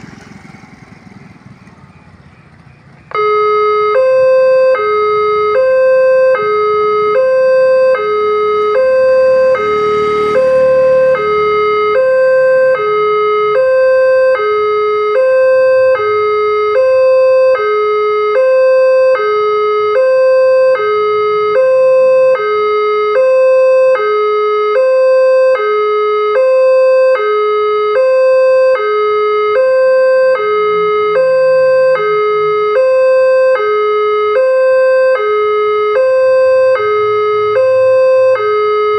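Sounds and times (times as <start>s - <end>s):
level crossing two-tone alarm: 1.1s - 38.9s.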